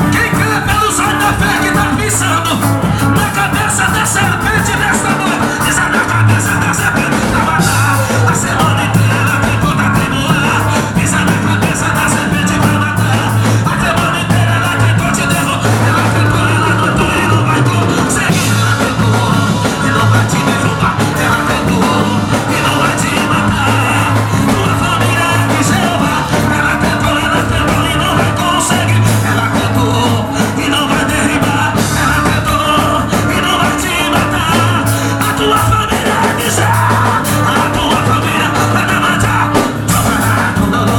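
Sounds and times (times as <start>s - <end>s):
live rock band playing: 0.0s - 40.9s
person singing: 0.0s - 40.9s.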